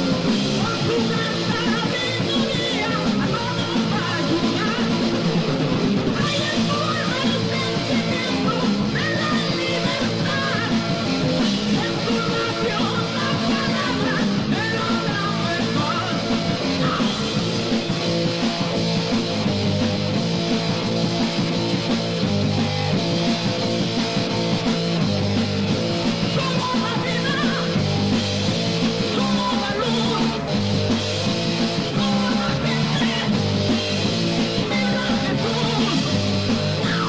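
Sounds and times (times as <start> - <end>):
heavy metal band playing: 0.0 - 37.0.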